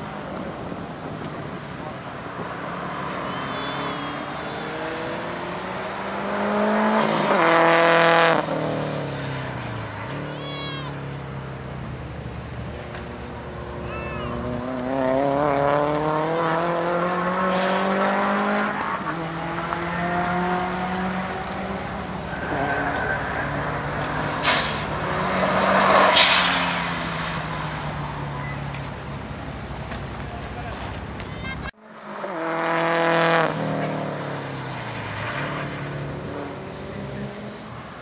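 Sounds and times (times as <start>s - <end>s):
car passing close: 0.0s - 38.0s
race car engine revving: 0.0s - 38.0s.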